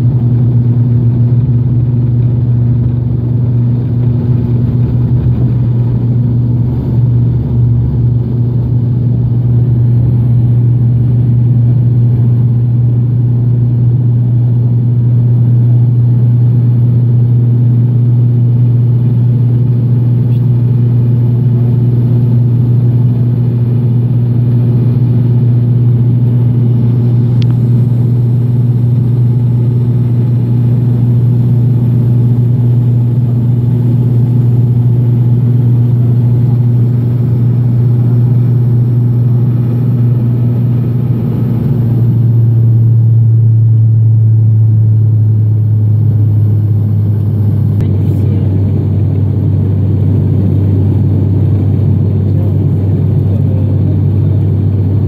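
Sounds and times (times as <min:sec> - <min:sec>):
turboprop cabin drone: 0:00.0 - 0:55.0.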